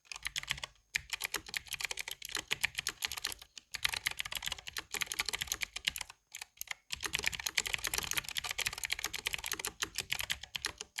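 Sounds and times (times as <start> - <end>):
mechanical keyboard typing: 0.1 - 11.0.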